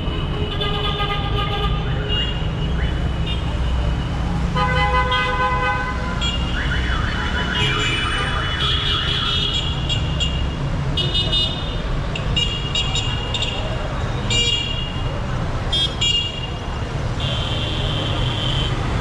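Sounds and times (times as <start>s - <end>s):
city traffic rumbling: 0.0s - 19.0s.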